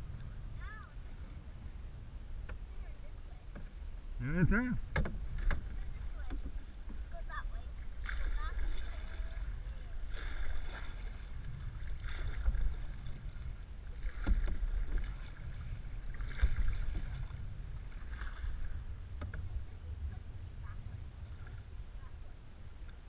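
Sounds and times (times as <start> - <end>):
canoe paddles splashing through water: 0.0 - 23.0
wind rumble on microphone: 0.0 - 23.0.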